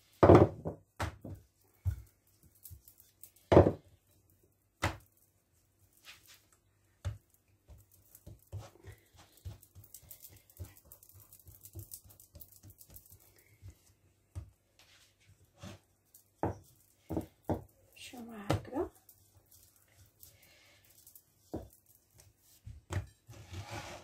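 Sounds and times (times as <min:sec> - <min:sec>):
hands patting dough: 0:00.0 - 0:23.3.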